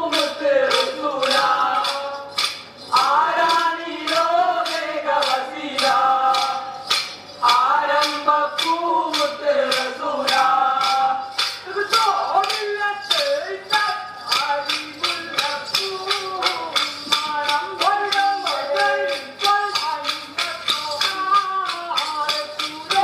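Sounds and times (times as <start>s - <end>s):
group singing: 0.0s - 23.0s
wooden sticks clacking: 0.1s - 23.0s.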